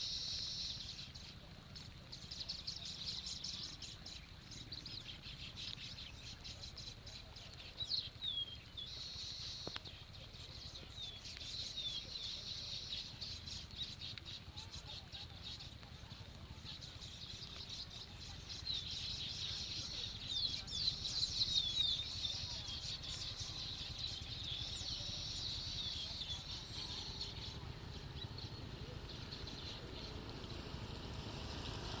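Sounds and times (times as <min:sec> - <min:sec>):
birds chattering: 0:00.0 - 0:32.0.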